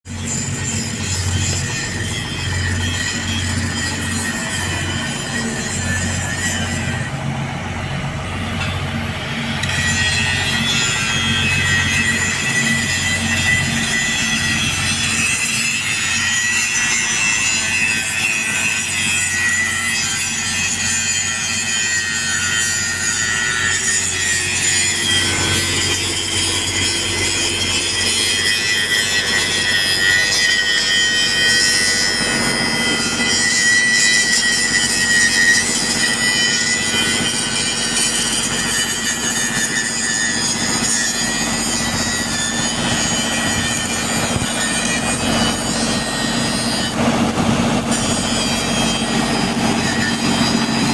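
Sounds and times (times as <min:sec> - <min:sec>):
angle grinder grinding steel: 0:00.1 - 0:50.9.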